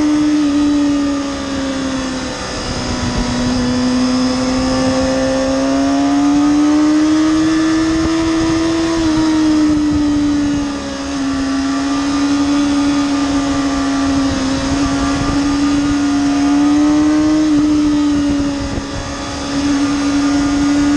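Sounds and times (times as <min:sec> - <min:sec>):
motorcycle engine revving high: 0:00.0 - 0:20.9.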